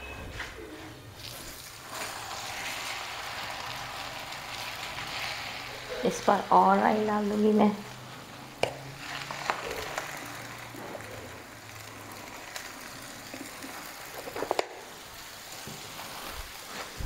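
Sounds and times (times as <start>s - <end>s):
oil sizzling faintly: 0.6s - 17.0s.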